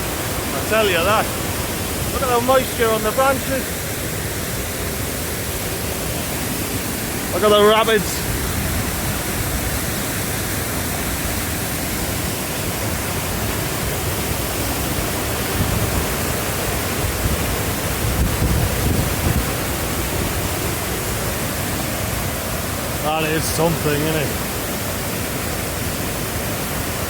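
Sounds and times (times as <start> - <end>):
waterfall and rapids roaring: 0.0 - 27.0.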